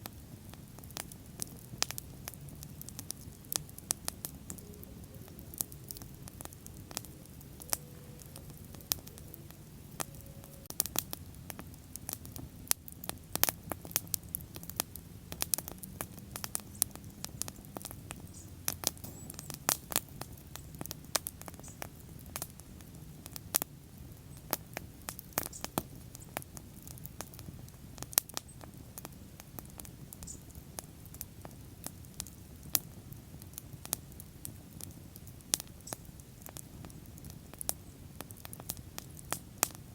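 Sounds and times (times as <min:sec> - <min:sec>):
bonfire crackling and popping: 0:00.0 - 0:39.9
low rumble of flame: 0:00.0 - 0:39.9.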